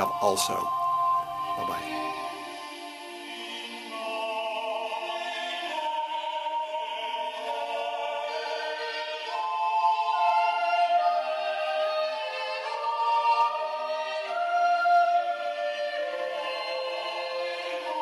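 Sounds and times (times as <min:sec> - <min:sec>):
choral operatic music: 0:00.0 - 0:18.0.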